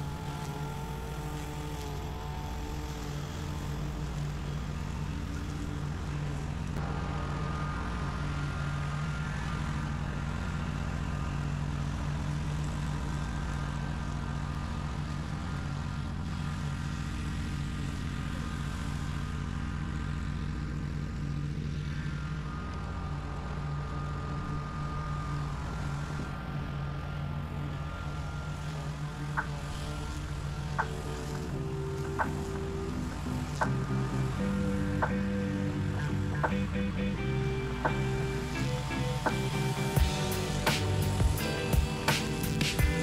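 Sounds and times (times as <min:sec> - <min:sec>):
riding mower engine droning: 0:00.0 - 0:43.0.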